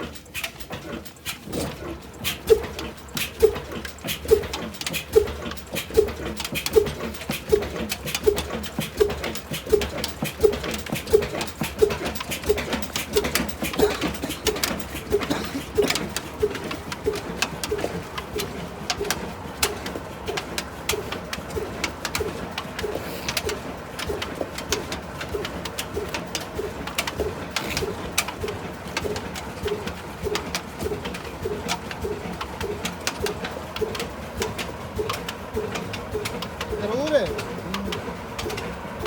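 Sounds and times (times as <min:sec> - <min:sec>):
sharp mechanical clicking: 0:00.0 - 0:39.0
stationary engine running slowly: 0:00.0 - 0:39.0.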